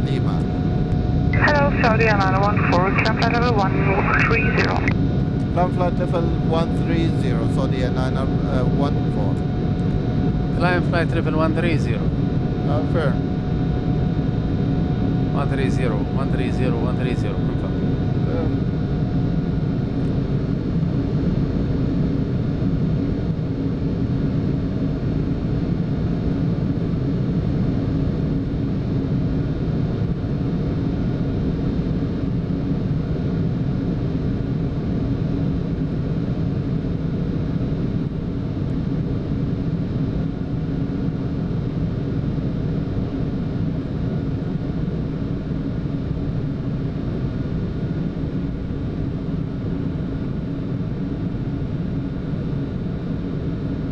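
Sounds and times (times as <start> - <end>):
airflow and engine rush: 0.0 - 53.9.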